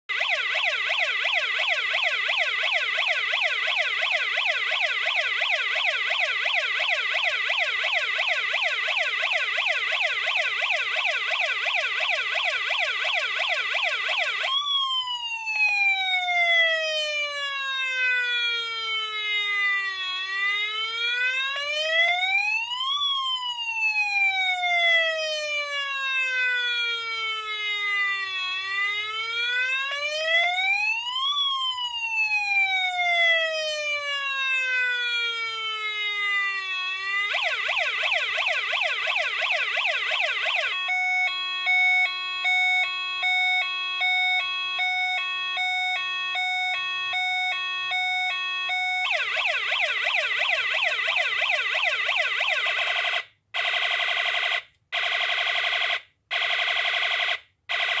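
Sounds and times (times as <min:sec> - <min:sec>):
electronic siren tones: 0:00.1 - 0:22.5, 0:23.8 - 0:53.2.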